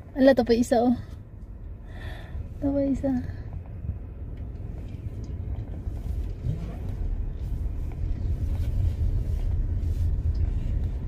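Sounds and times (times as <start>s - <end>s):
car rumbling on dirt road: 0.0s - 11.0s.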